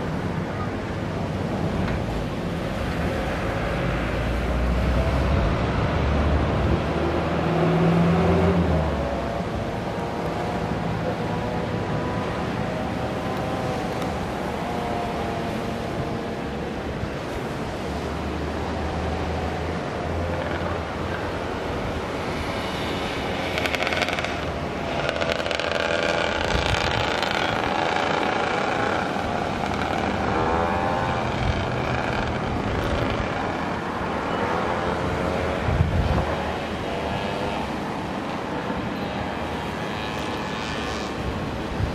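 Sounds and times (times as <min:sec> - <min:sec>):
vehicle engines passing: 0:00.0 - 0:41.9.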